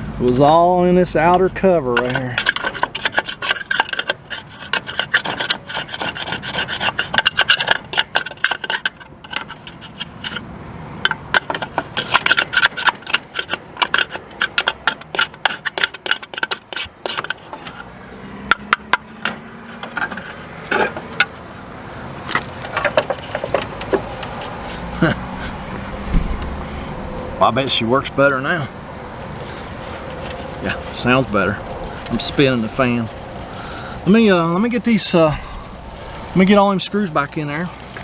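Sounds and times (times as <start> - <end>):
dried mud scraping and clicking: 0.3 - 38.0.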